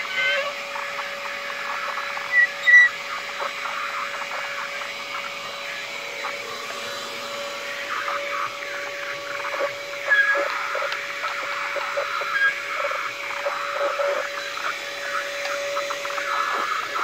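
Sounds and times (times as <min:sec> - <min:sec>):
handheld vacuum cleaner running: 0:00.0 - 0:17.0.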